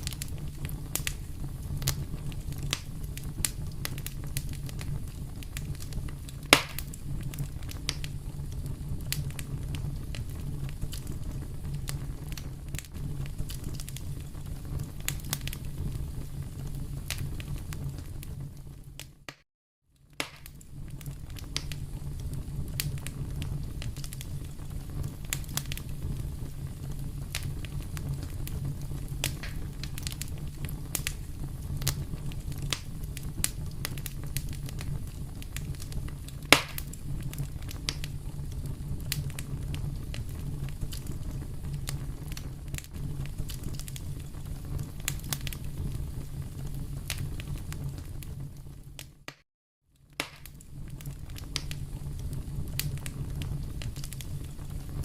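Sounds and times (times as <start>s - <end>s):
fire crackling and popping: 0.0s - 19.4s, 20.0s - 49.4s, 50.0s - 55.0s
fire rumbling: 0.0s - 19.4s, 20.0s - 49.4s, 50.0s - 55.0s.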